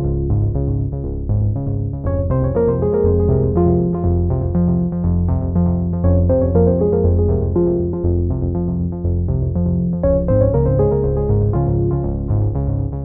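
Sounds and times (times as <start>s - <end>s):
synthesizer and keyboard music: 0.0s - 13.0s.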